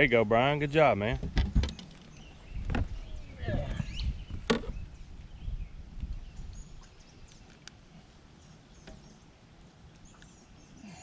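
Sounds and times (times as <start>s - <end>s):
faint bird chirps: 2.1s - 11.0s.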